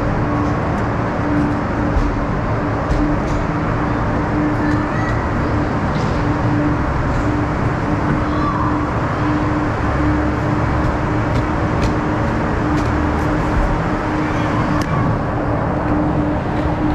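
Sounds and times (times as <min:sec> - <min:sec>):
ice resurfacer engine running: 0:00.0 - 0:16.9.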